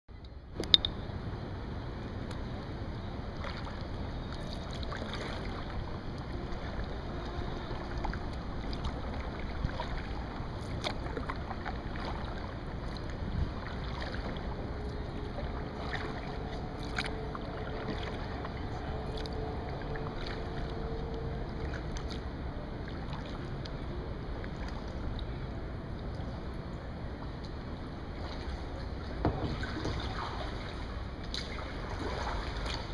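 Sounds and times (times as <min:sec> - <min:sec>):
paddle drips and ticks: 0:00.2 - 0:01.0, 0:02.0 - 0:32.9
water rushing along kayak hull: 0:01.1 - 0:32.9.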